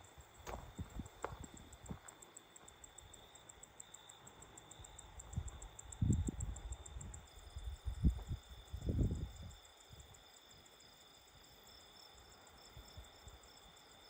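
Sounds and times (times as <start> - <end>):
crickets chirping: 0.0 - 14.0
high insect drone: 0.0 - 14.0.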